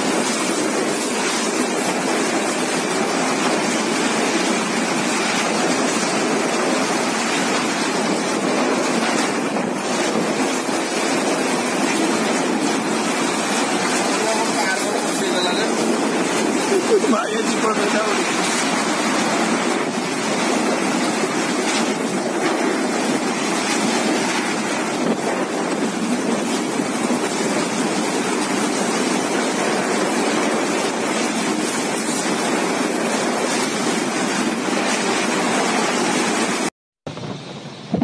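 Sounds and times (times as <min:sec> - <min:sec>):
wind and driving rain: 0:00.0 - 0:38.0.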